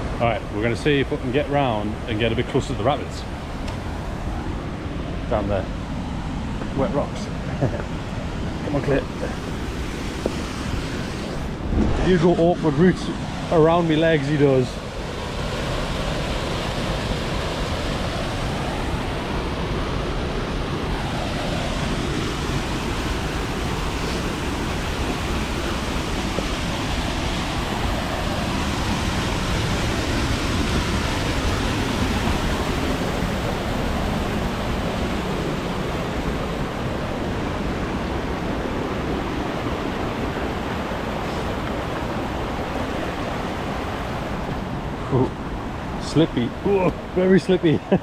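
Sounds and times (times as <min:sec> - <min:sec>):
white-water rapids rushing: 0:08.0 - 0:48.0.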